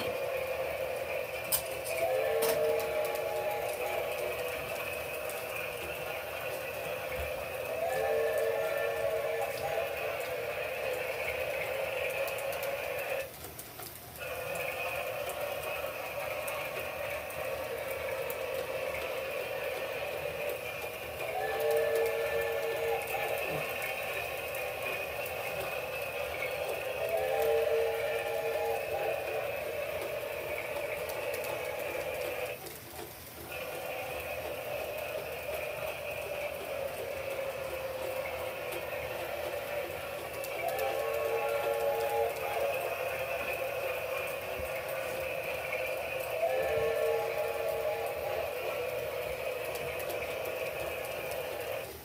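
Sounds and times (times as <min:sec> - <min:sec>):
toy train motor and sound effects: 0:00.0 - 0:52.0.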